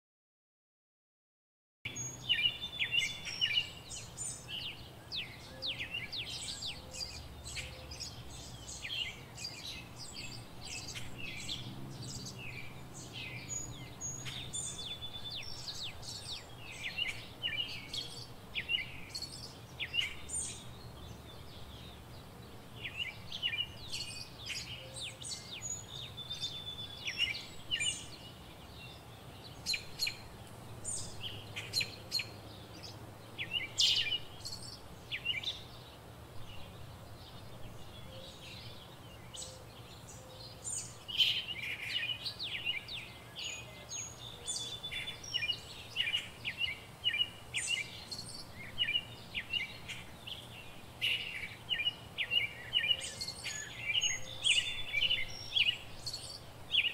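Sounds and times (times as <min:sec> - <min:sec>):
birds chirping: 0:01.9 - 0:56.9.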